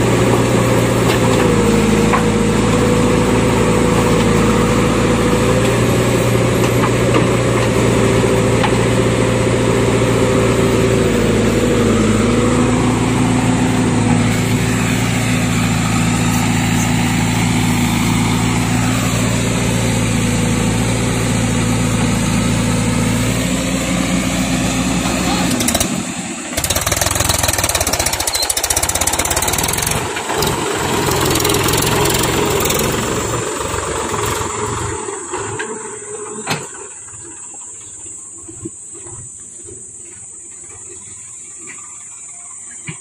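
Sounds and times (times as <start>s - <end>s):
backhoe loader diesel engine: 0.0s - 43.0s
tractor idling: 0.0s - 43.0s.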